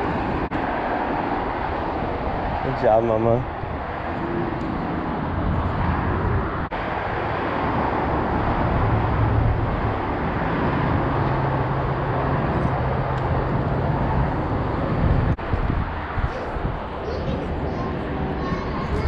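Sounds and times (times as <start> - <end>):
low engine hum: 0.0 - 19.0
traffic noise: 0.0 - 19.0.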